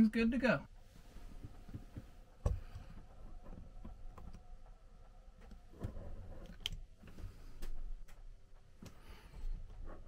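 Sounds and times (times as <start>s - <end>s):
faint clicks and taps: 1.4s - 10.0s.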